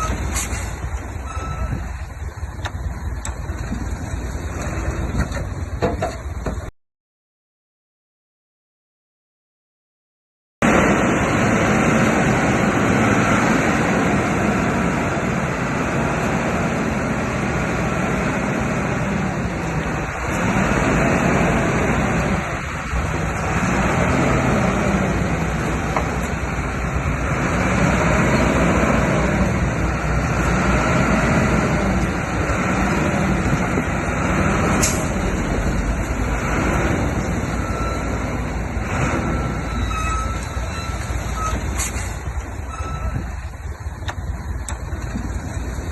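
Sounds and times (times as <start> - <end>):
heavy diesel engine under load: 0.0 - 6.7, 10.6 - 45.9.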